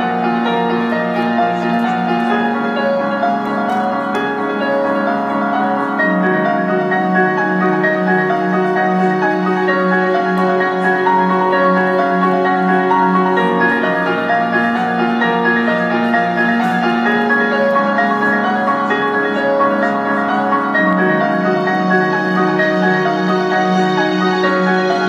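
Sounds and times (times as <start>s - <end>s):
instrumental piano music: 0.0s - 25.0s.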